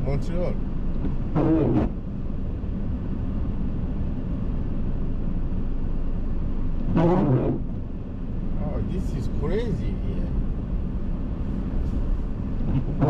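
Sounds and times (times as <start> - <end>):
car rumble inside cabin: 0.0 - 13.0.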